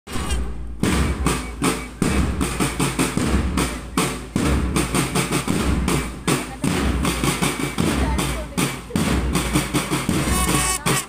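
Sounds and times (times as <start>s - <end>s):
bass drum thumps: 0.1s - 11.0s
snare drum strokes: 0.1s - 11.0s.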